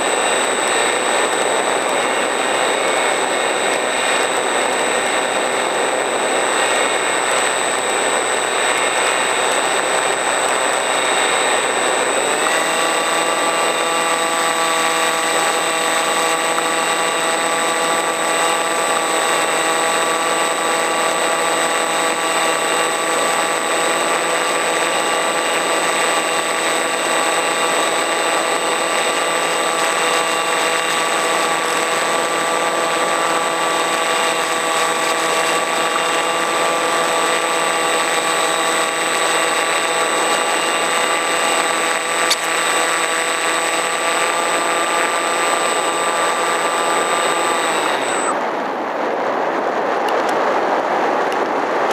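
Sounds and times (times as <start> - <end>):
model plane motor drone: 0.0 - 48.8.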